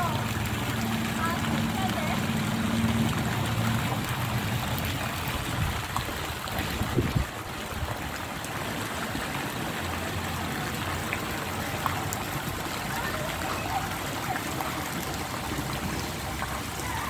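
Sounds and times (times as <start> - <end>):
water jets splashing: 0.0 - 17.0.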